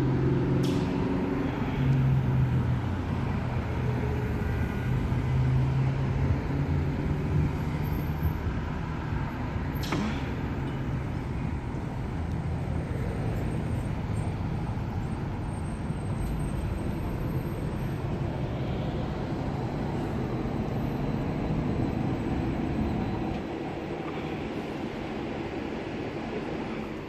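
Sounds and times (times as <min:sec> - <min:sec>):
street traffic rumble: 0:00.0 - 0:27.0
trolley bus pulling up: 0:00.0 - 0:27.0.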